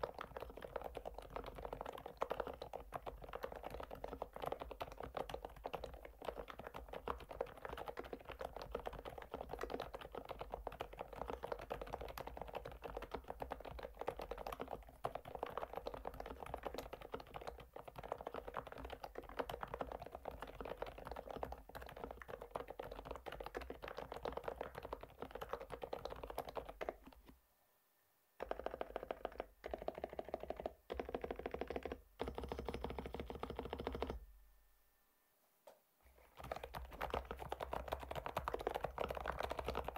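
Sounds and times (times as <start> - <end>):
mechanical keyboard typing: 0.0 - 27.3, 28.4 - 34.2, 36.2 - 39.9.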